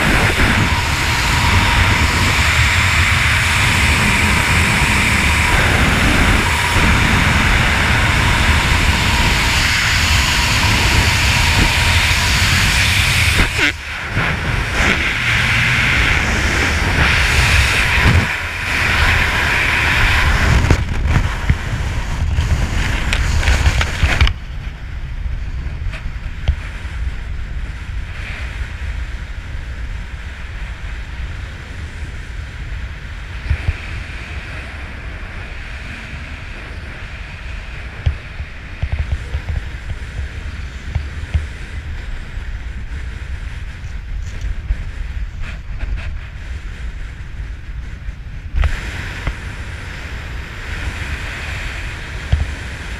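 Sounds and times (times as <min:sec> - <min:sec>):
freefall wind rush on microphone: 0:00.0 - 0:52.9
soft steady wind: 0:00.0 - 0:52.9.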